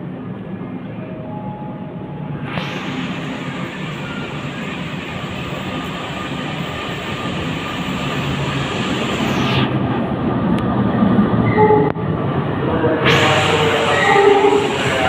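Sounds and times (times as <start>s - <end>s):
train wheels rumbling on rail: 2.2s - 15.0s.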